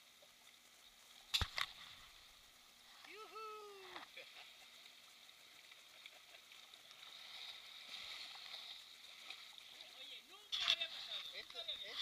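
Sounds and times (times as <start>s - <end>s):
water lapping around a kayak: 0.0s - 12.0s.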